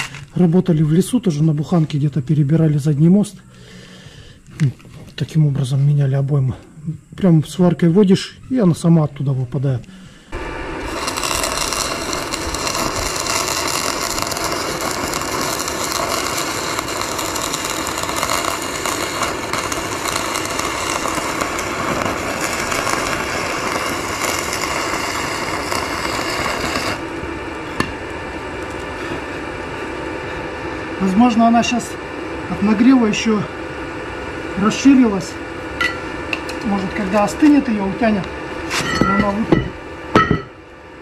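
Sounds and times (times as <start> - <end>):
arc welding crackle: 0.0 - 3.4, 7.6 - 40.5.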